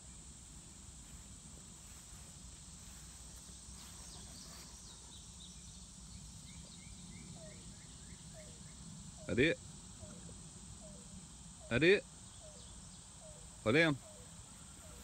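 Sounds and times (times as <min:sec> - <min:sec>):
high-pitched insect buzz: 0:00.0 - 0:15.0.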